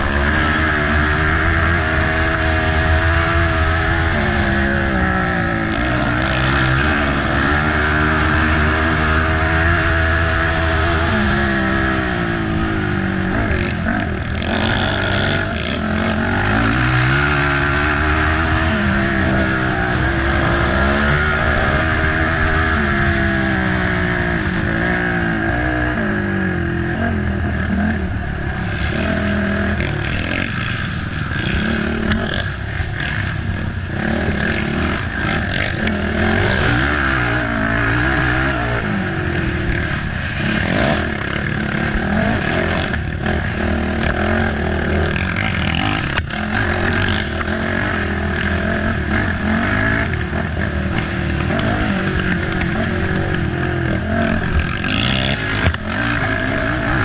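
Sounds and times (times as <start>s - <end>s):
quad engine revving hard: 0.0s - 57.0s.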